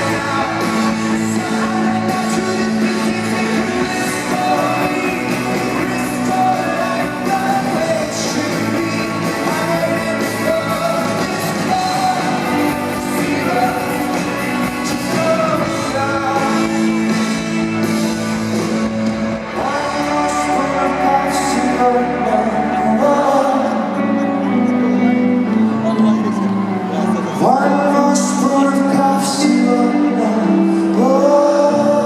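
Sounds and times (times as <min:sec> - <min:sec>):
person singing: 0:00.0 - 0:32.0
rock band playing live: 0:00.0 - 0:32.0.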